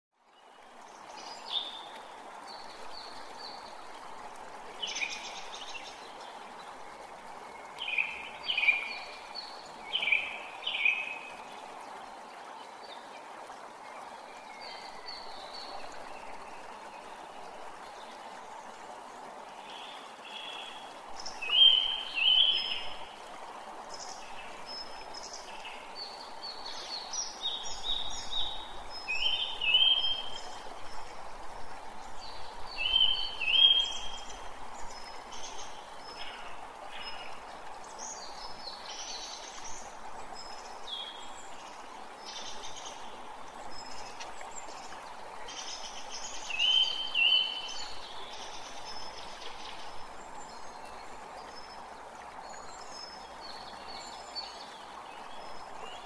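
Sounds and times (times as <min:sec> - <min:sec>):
running stream water: 0:00.1 - 0:56.0.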